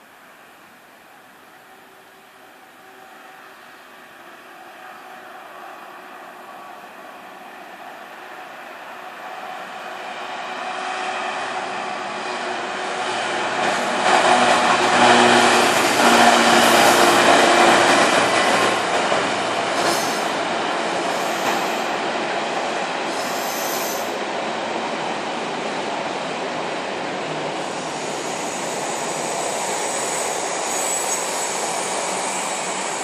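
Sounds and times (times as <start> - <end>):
train passing rumble: 1.7 - 33.0.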